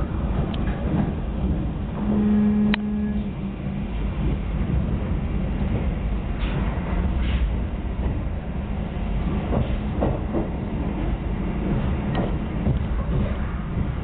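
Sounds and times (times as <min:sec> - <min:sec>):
low rumble of wheels on track: 0:00.0 - 0:14.0.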